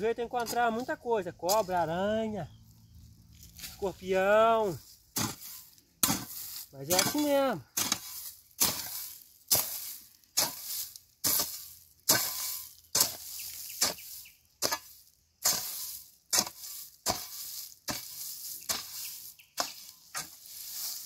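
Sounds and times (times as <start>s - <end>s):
hoe chopping dry soil: 0.1s - 2.0s, 3.3s - 21.0s.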